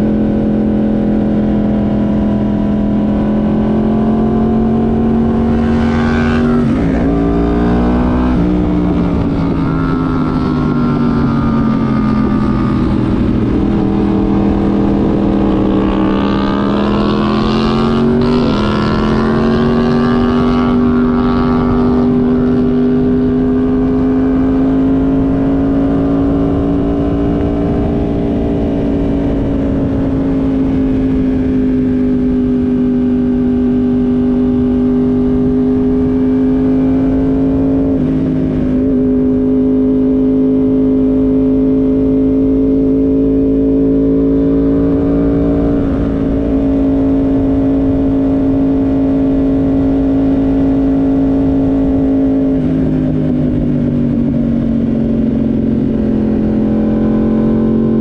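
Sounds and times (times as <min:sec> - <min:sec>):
motorcycle engine at high revs: 0:00.0 - 0:58.0
wind rush: 0:00.0 - 0:58.0.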